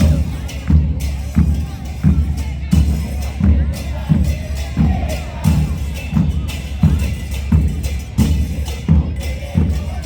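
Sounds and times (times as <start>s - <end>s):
bass drum beat: 0.0s - 10.0s.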